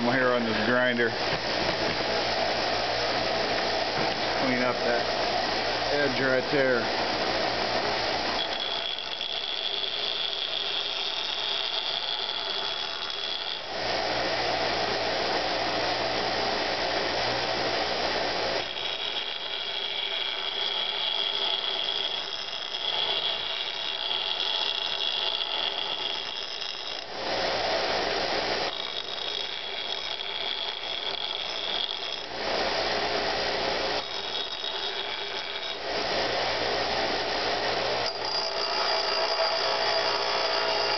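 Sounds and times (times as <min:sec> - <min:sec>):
bench grinder running: 0:00.0 - 0:40.9
high whine of grinding steel: 0:00.0 - 0:40.9.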